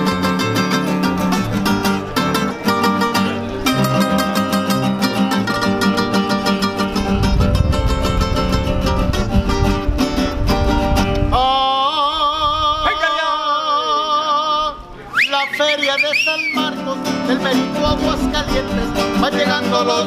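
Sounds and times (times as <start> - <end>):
strummed acoustic guitars: 0.0 - 20.0.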